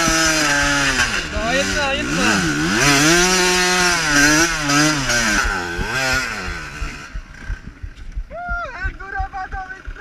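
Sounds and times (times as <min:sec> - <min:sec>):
two-stroke engine revving: 0:00.0 - 0:08.3.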